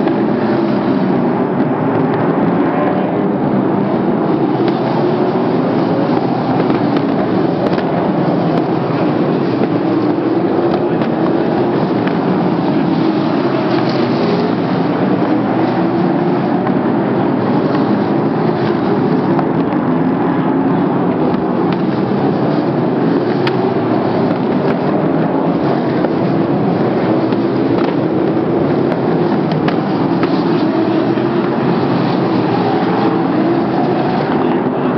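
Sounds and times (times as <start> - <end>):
racing car engines roaring: 0.0 - 34.9.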